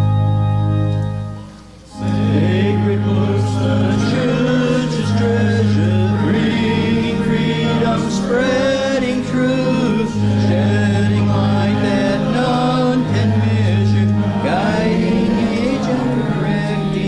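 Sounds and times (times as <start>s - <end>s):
low bass accompaniment notes: 0.0s - 17.0s
congregation singing a hymn: 1.9s - 17.0s.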